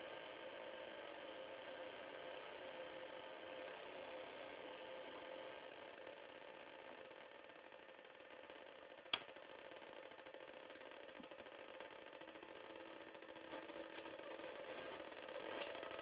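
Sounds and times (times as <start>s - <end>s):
noise box droning tones: 0.0s - 16.0s.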